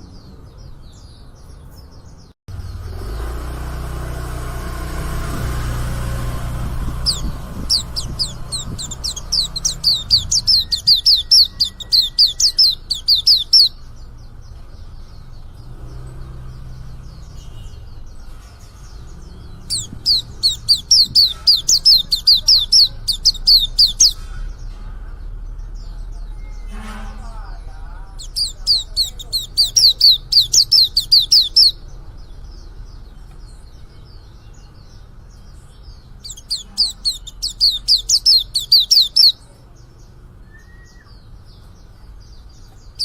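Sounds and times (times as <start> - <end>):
bird singing high slurred notes: 0.0 - 14.4, 15.2 - 43.0.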